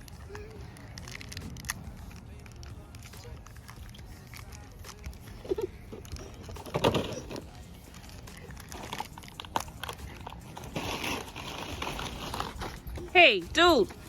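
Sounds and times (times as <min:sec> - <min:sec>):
plastic toy packaging crinkling: 0:00.0 - 0:12.9.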